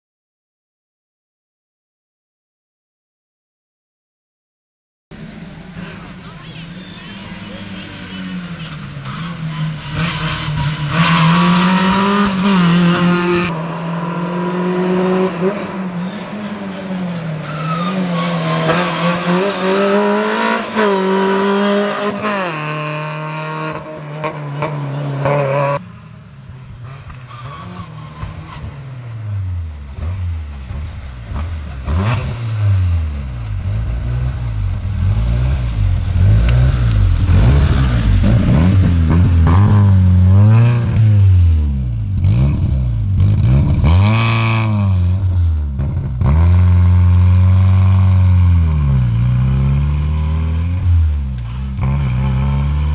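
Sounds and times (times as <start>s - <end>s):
race car engine revving: 5.2s - 25.8s, 26.8s - 52.9s.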